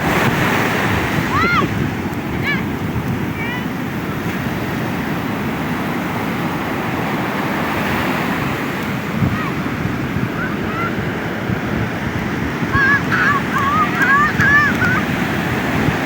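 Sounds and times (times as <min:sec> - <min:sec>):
ocean surf washing on beach: 0:00.0 - 0:16.0
wind buffeting microphone: 0:00.0 - 0:16.0.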